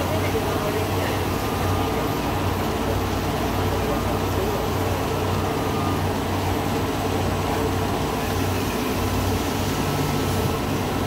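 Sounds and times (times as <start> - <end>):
production line machinery hum: 0.0 - 11.0.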